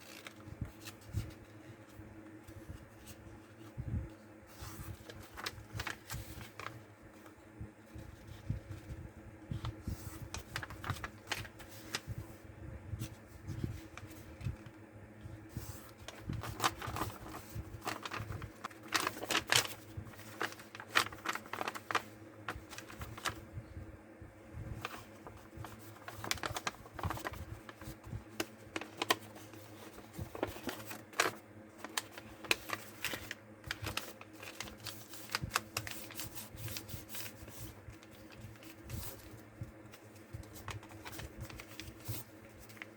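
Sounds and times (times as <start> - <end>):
paper folding and crackling: 0.0 - 23.7, 24.6 - 42.9
steady low hum: 0.0 - 42.9.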